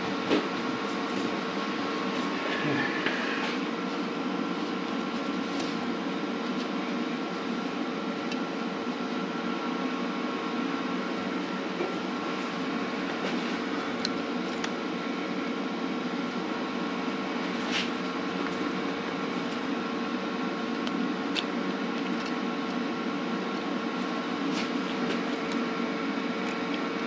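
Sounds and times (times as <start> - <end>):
mechanical whirring hum: 0.0 - 27.0.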